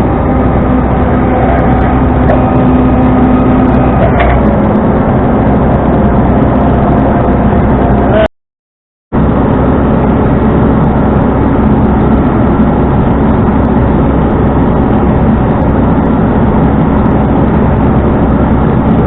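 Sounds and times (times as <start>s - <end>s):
road noise: 0.0s - 8.3s, 9.1s - 19.0s
truck engine hum: 0.0s - 8.3s, 9.2s - 19.0s.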